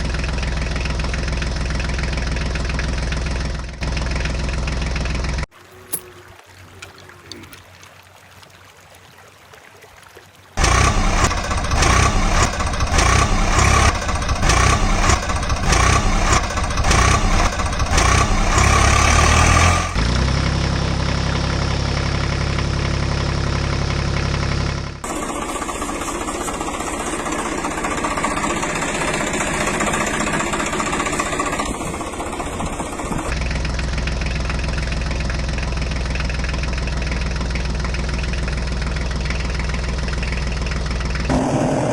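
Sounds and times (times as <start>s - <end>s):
vehicle engine running: 0.0s - 5.5s, 10.6s - 41.9s.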